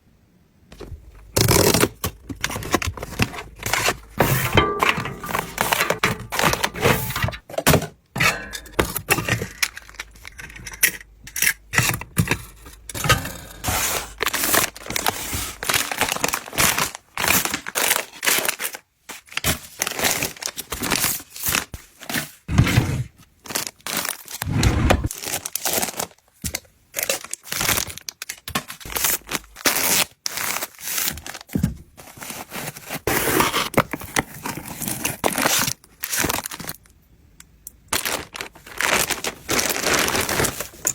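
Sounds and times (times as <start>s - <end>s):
wrappers tearing and crinkling: 0.8s - 7.4s, 9.1s - 10.8s, 11.5s - 22.4s, 23.4s - 24.5s, 25.1s - 36.9s, 37.9s - 40.9s.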